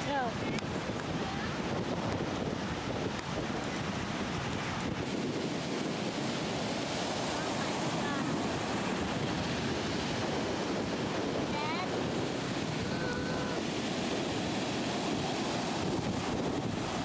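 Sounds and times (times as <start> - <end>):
surf waves breaking: 0.0 - 17.0
wind buffeting microphone: 0.0 - 17.0.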